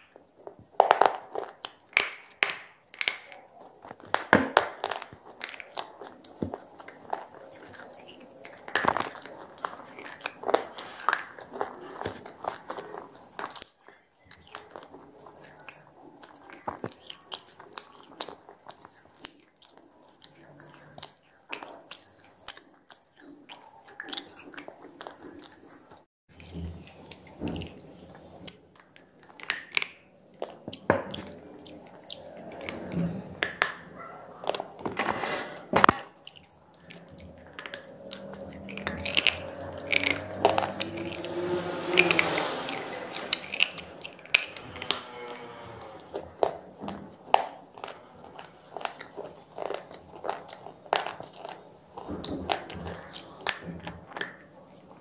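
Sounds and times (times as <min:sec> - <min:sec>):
slate being chewed and crunched: 0:00.0 - 0:35.0, 0:35.8 - 0:55.0.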